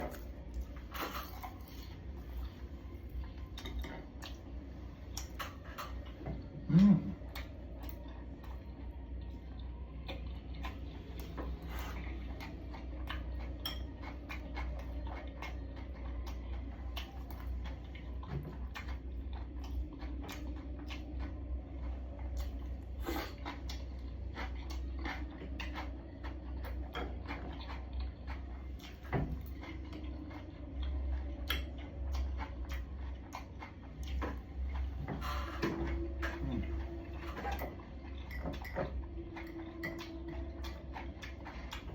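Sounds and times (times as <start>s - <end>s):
steady low hum: 0.0s - 41.9s
mouth sounds of eating: 4.2s - 38.3s.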